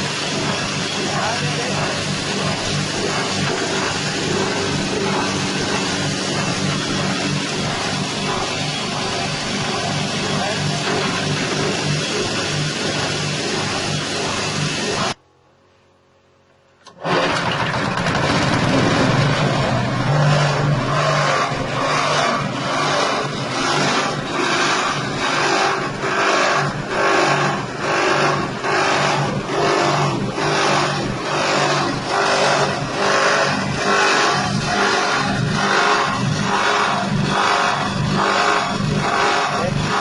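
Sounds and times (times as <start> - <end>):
grinding mill engine pulsing: 0.0 - 15.2, 16.8 - 40.0.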